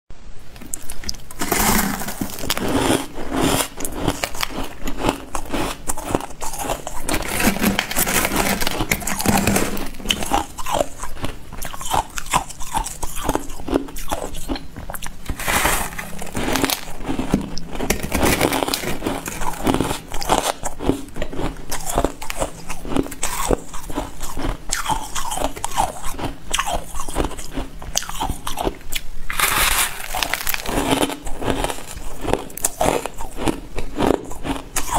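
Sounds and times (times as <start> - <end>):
person crunching ice: 1.3 - 28.7, 29.3 - 34.9.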